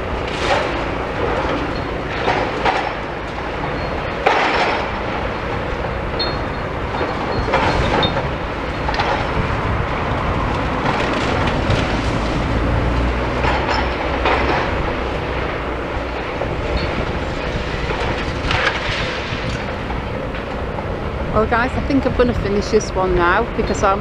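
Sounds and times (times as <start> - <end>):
rubble and timber crunching: 0.0 - 22.1
excavator engine running: 0.0 - 24.0.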